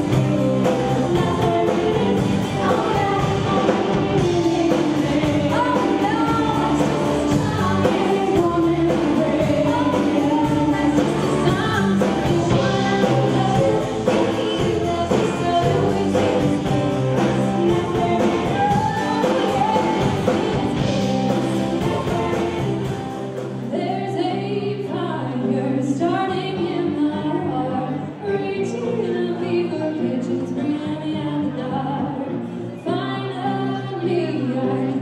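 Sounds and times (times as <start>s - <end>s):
women singing in harmony: 0.0s - 23.1s, 23.7s - 35.0s
drums: 0.0s - 35.0s.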